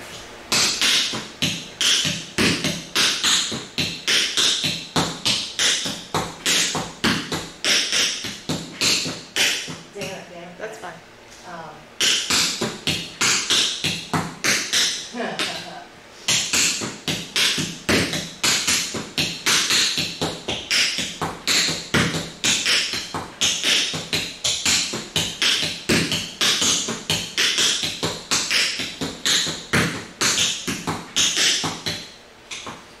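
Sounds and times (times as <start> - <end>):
tap shoes on hardwood floor: 0.5 - 10.2, 12.0 - 15.6, 16.3 - 32.9.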